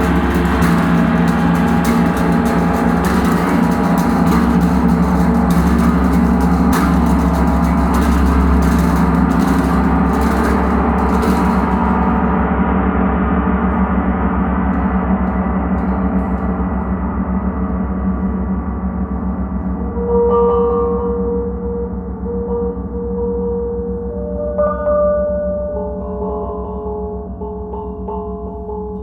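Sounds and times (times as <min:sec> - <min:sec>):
gong ringing: 0:00.0 - 0:29.0.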